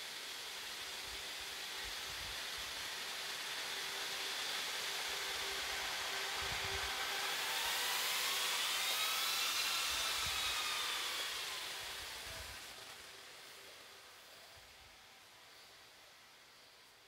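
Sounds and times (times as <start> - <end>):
cooling fans hissing: 0.0 - 17.0
faint whine bending in pitch: 0.0 - 17.0.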